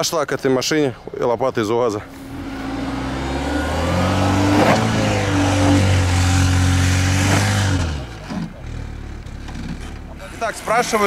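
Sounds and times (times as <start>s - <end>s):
car engine revving: 2.0s - 11.0s.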